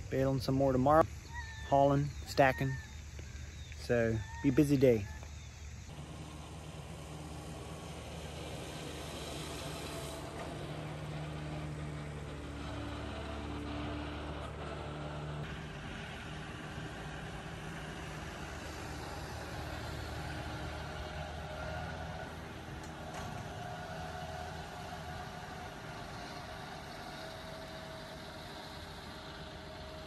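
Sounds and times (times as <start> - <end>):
tractor engines running: 0.0 - 30.0.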